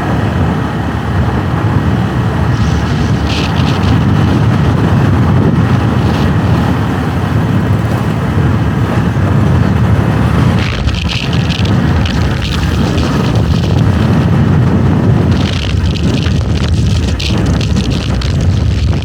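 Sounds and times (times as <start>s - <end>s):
motorbike engine and road noise: 0.0s - 19.0s
wind on microphone: 0.0s - 19.0s.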